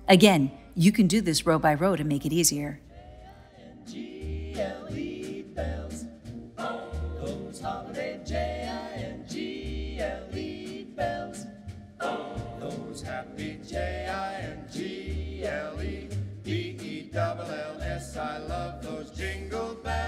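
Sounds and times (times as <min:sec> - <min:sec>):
choir-like group singing: 0:02.8 - 0:20.0.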